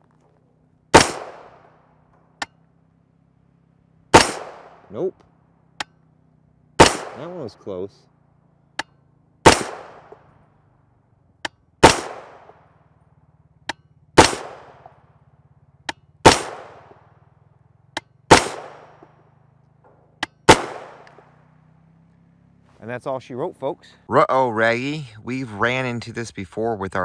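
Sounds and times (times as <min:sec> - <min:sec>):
suppressed rifle shots echoing: 0:00.0 - 0:22.6.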